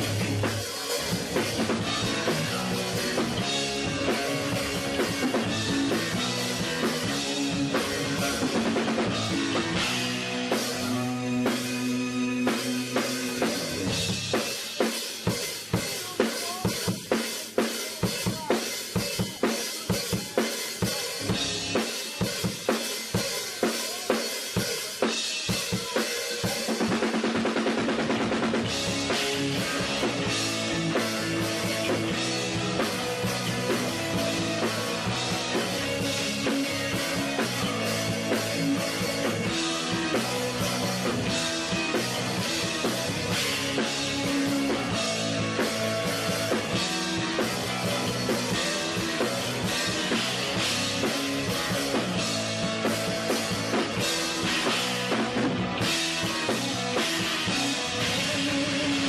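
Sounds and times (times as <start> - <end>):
rock music: 0.0 - 59.0.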